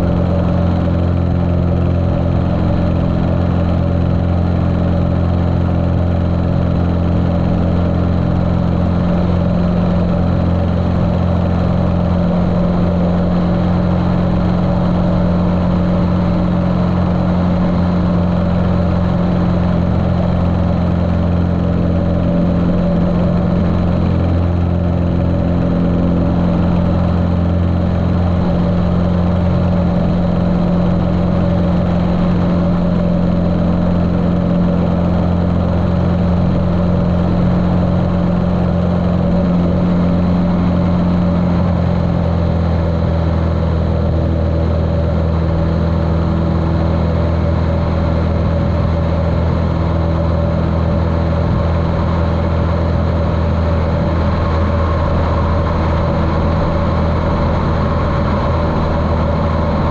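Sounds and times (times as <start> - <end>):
muffled aircraft engine running: 0.0 - 59.9.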